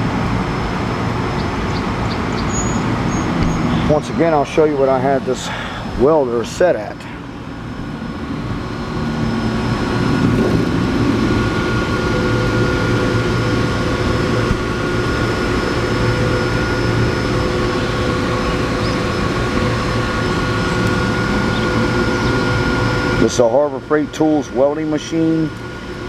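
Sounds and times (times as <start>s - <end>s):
constant electrical hum: 0.0s - 26.0s
cooling fan whirring: 0.0s - 26.0s.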